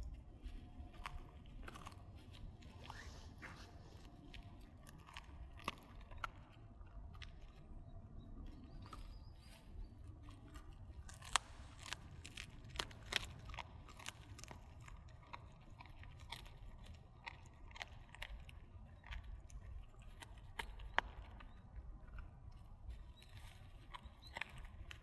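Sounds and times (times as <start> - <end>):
dog crunching bones: 0.0 - 25.0.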